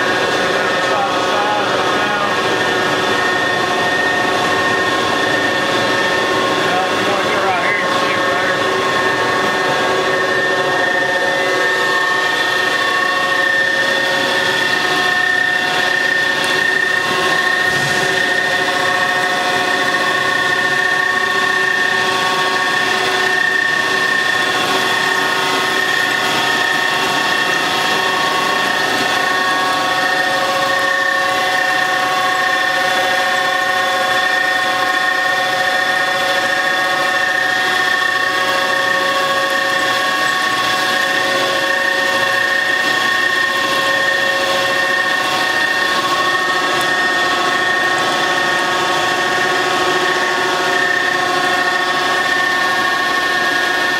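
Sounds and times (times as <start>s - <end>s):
grinder whining: 0.0s - 53.9s.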